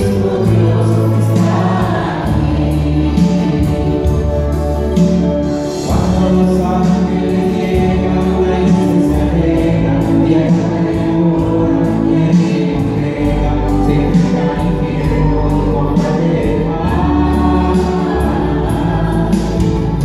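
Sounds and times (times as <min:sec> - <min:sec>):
choir singing a hymn: 0:00.0 - 0:20.0
low sustained bass notes: 0:00.0 - 0:20.0.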